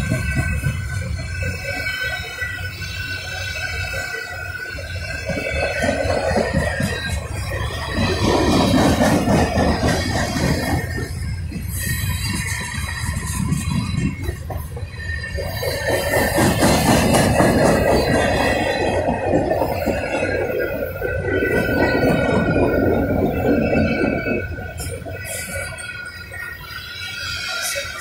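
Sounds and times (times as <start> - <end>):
steel wheels rumbling on rail: 0.0 - 28.0
thin high wheel squeal: 0.0 - 28.0.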